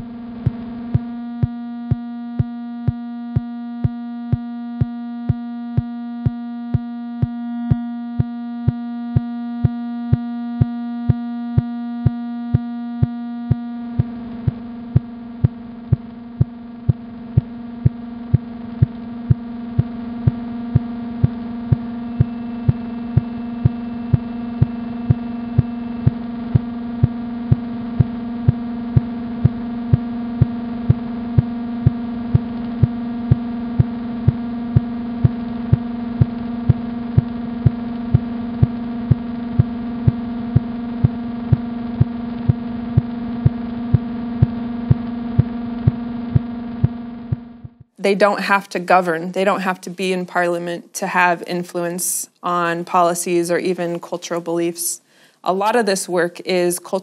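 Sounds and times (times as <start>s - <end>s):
synthesizer drone with low pulse: 0.0s - 48.0s.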